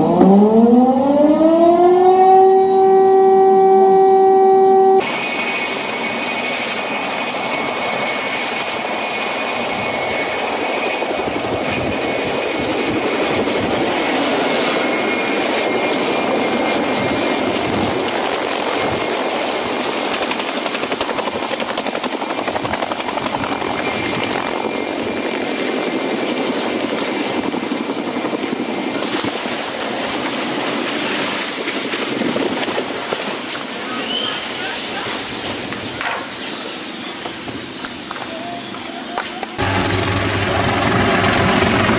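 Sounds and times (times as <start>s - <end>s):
high turbine whine: 0.0s - 41.9s
helicopter rotor noise: 2.3s - 41.9s.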